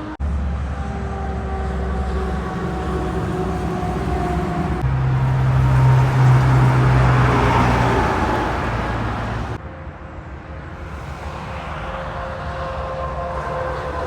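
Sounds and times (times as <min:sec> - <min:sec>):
heavy truck passing: 0:00.0 - 0:14.0
steady traffic noise: 0:00.0 - 0:14.0.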